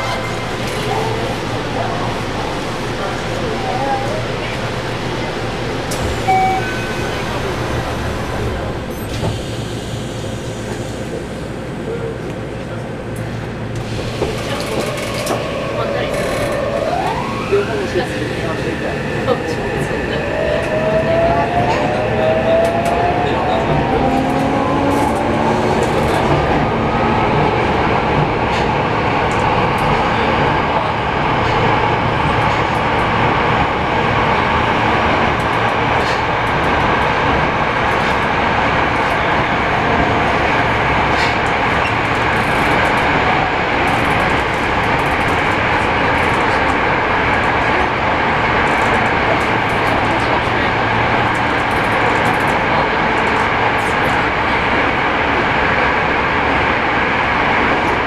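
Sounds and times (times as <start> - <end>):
wheels rumbling on rail: 0.0 - 58.0.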